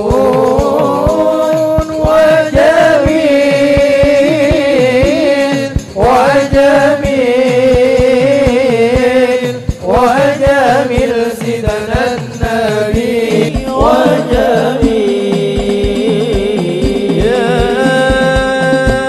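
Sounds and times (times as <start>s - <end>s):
low drum beat: 0.0s - 19.0s
men singing devotional song: 0.0s - 19.0s.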